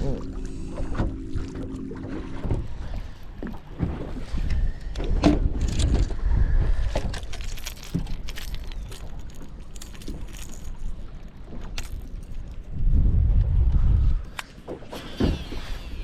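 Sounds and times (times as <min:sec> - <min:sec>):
low steady rumble: 0:00.0 - 0:14.2.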